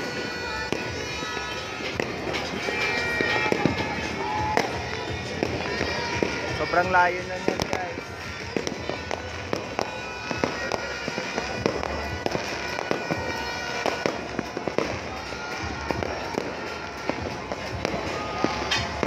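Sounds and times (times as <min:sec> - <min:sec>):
fireworks bangs and pops: 0:00.0 - 0:19.0
fireworks crackling: 0:00.0 - 0:19.0.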